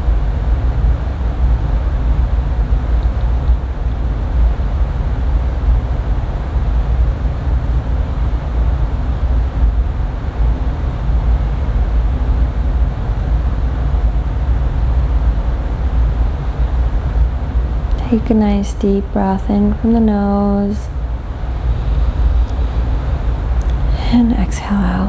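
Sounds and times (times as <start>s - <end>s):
low rumbling noise: 0.0s - 25.0s.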